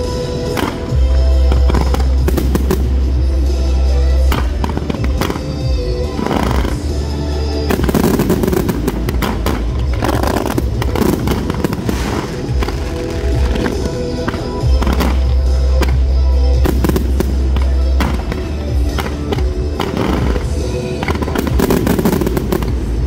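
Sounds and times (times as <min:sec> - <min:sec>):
fireworks bursting and crackling: 0:00.0 - 0:23.0
loud music with deep bass: 0:00.0 - 0:23.0.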